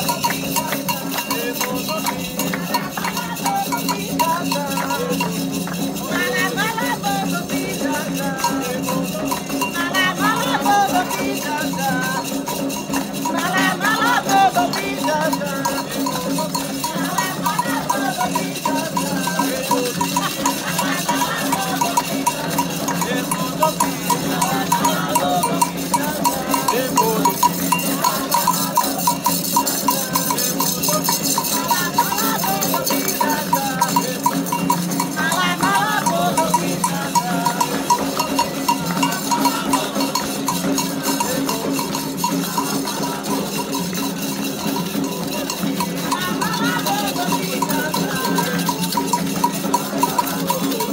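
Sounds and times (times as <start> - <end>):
bell: 0.0 - 50.9
percussion rhythm: 0.0 - 50.9
voices singing: 0.0 - 50.9.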